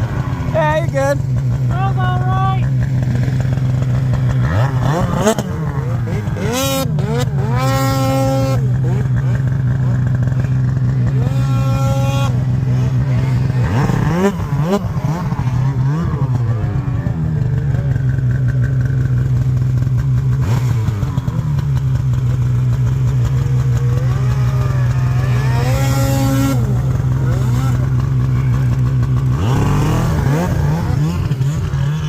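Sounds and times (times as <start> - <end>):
snowmobile engines revving: 0.0 - 32.0.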